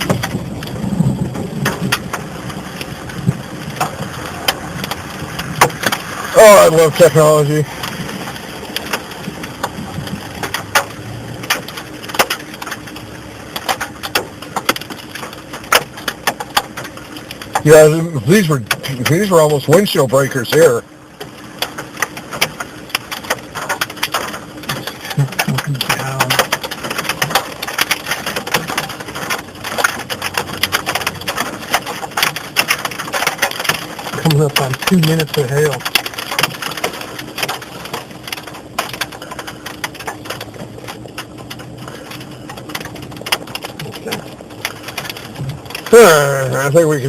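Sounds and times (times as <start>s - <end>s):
hailstones cracking on vehicle: 0.0s - 47.0s.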